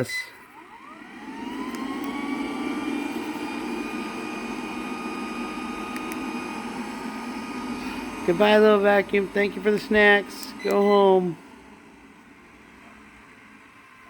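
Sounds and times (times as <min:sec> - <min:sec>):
robot vacuum motor whine: 0:00.0 - 0:14.0.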